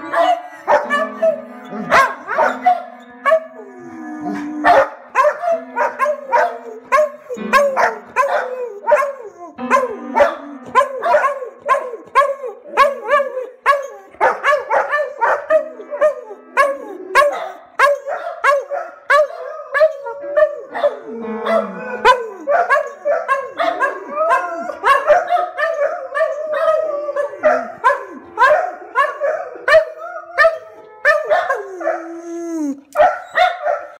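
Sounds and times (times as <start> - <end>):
piano notes: 0.0 - 32.8
dogs barking and howling: 0.0 - 34.0.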